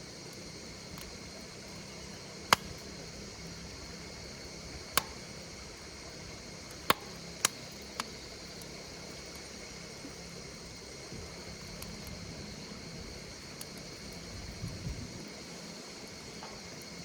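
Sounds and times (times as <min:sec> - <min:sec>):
insects chirring: 0:00.0 - 0:17.0
wood fire crackling: 0:00.0 - 0:17.0.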